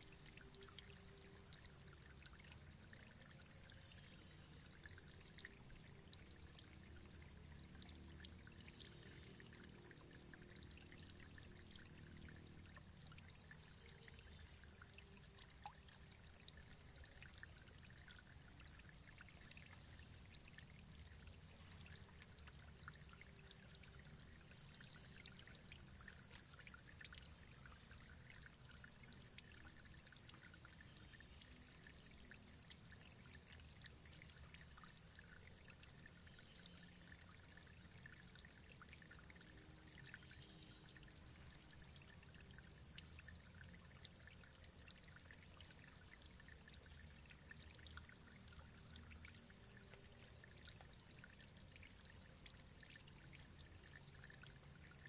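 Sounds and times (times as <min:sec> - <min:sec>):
running water with drips: 0:00.0 - 0:55.0.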